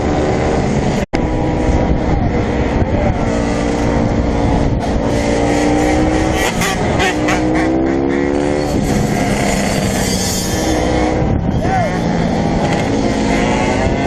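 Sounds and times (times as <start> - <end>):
dirt bike engine accelerating: 0.0 - 14.0.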